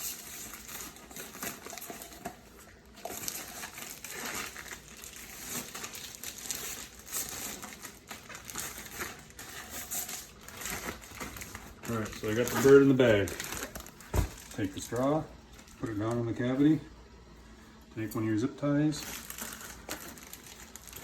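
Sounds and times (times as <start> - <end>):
plastic bag crinkling: 0.0 - 16.8, 18.1 - 21.0.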